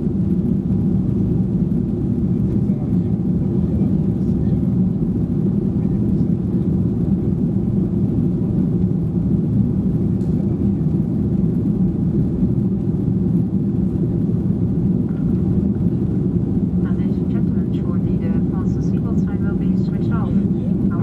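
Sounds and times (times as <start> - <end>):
jet engine rumble in cabin: 0.0 - 21.0.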